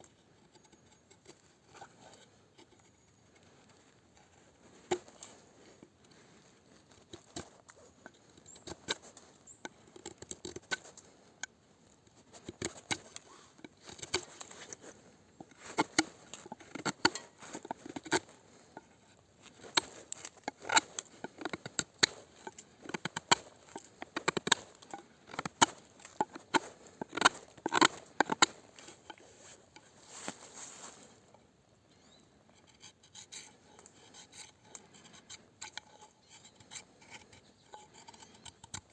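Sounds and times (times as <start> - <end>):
knife cutting and scraping: 0.6 - 11.3, 12.1 - 31.2, 32.1 - 38.9.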